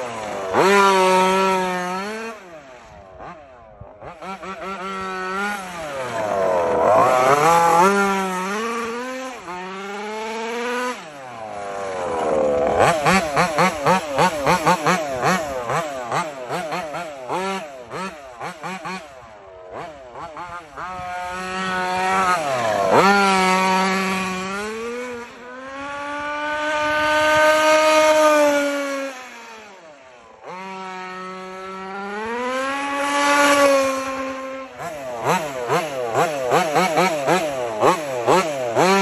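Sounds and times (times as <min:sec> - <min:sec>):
rc car engine revving: 0:00.0 - 0:39.0.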